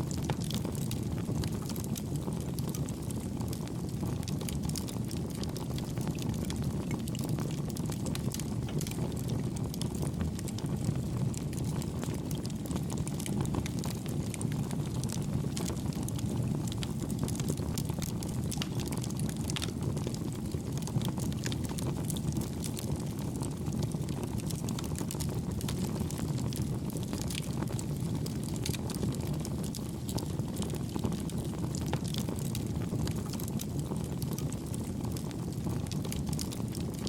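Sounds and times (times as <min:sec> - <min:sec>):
fire crackling and popping: 0:00.0 - 0:37.0
campfire flames rushing: 0:00.1 - 0:37.0.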